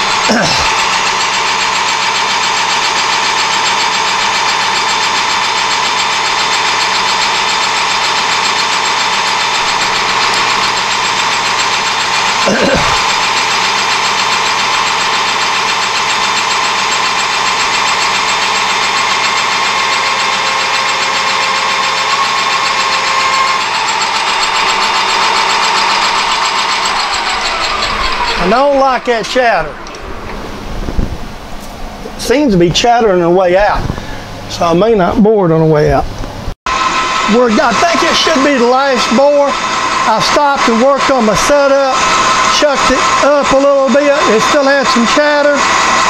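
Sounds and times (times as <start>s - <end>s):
metal lathe boring steel: 0.0s - 31.6s, 36.7s - 46.0s.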